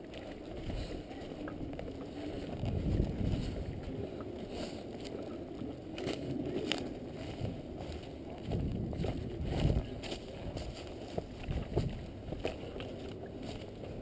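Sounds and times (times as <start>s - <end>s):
rustling on a microphone: 0.0s - 14.0s
wind buffeting a microphone: 0.0s - 14.0s.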